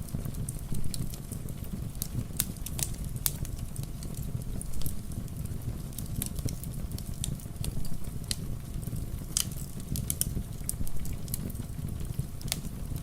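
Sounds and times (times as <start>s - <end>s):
low rumble of rain: 0.0s - 13.0s
wood fire crackling and popping: 0.0s - 13.0s.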